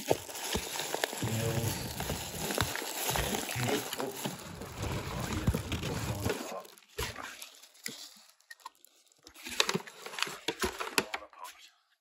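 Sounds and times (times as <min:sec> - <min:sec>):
plastic bag and paper rustling: 0:00.0 - 0:11.1.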